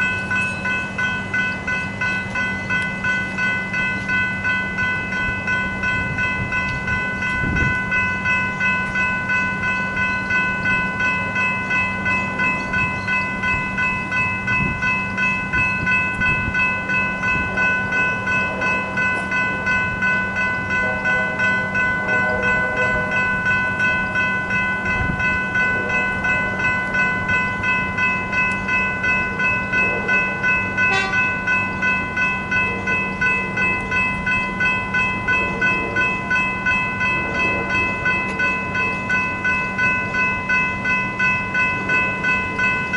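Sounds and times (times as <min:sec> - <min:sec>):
level crossing warning bells: 0:00.0 - 0:42.9.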